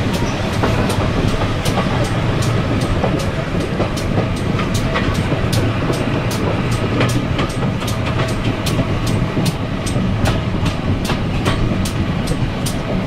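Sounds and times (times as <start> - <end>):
train wheels clickety-clack: 0.0 - 13.0.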